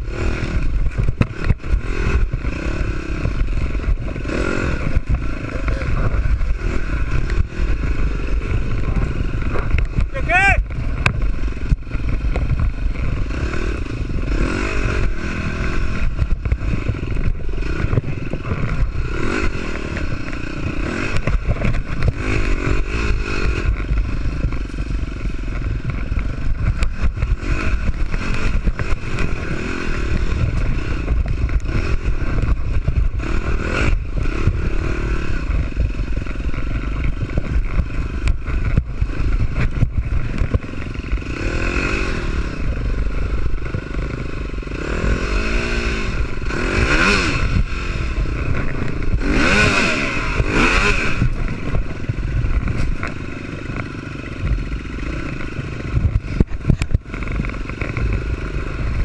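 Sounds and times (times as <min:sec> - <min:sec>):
bike knocking and rattling: 0:00.0 - 0:59.0
dirt bike engine revving: 0:00.0 - 0:59.0.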